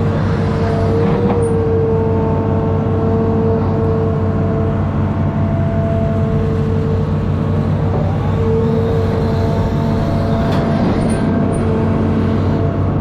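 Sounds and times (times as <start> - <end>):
diesel engine droning: 0.0 - 13.0
steady whine: 0.0 - 13.0.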